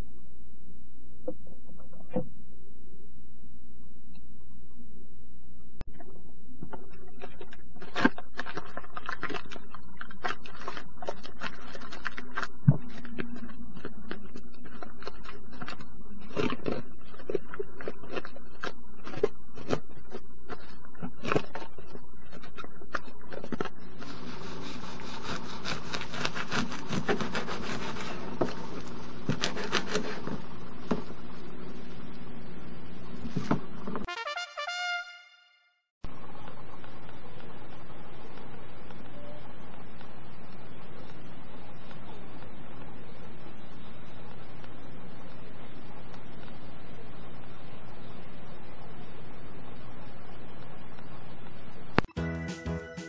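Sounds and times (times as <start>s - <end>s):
steady low hum: 0.0s - 34.2s, 36.0s - 52.2s.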